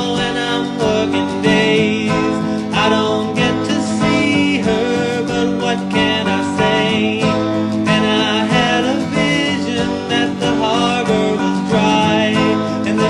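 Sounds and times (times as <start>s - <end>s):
country song with acoustic guitar: 0.0s - 13.0s
person singing: 0.0s - 13.0s.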